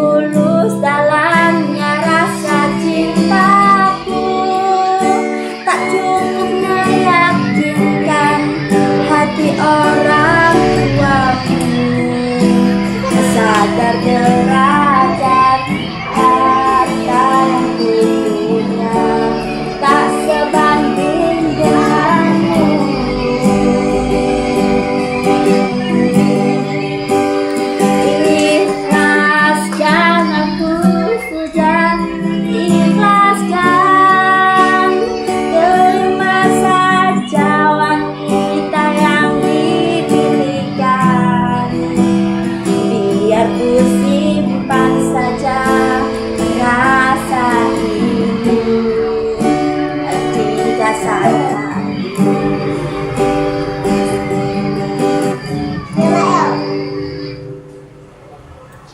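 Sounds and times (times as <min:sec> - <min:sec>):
guitar accompaniment: 0:00.0 - 0:58.9
high voice singing: 0:00.0 - 0:58.9.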